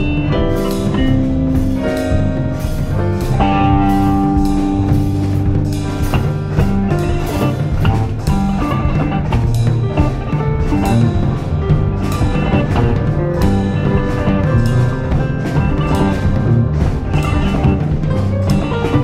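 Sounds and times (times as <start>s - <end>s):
drum kit beat: 0.0s - 19.0s
instrumental rock music: 0.0s - 19.0s.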